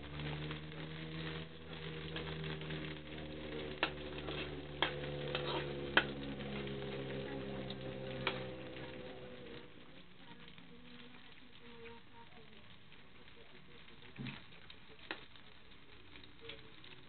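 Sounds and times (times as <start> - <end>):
steady low hum: 0.0 - 14.3
noodles sizzling in a wok: 0.0 - 17.0.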